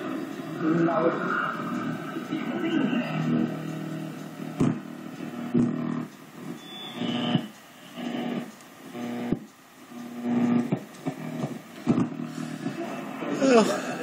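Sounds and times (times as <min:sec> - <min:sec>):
radio static: 0:00.0 - 0:14.0
radio tuning clicks: 0:00.0 - 0:14.0.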